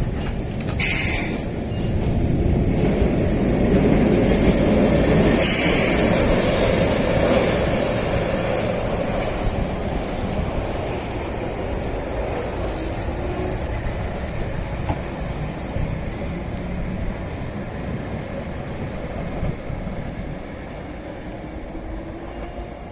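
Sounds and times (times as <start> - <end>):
electric train rumbling: 0.0 - 22.9.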